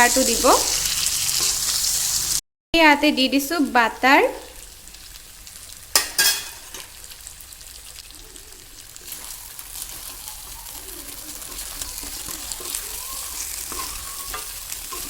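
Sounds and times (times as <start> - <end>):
chicken sizzling in oil: 0.0 - 2.4, 3.2 - 15.0.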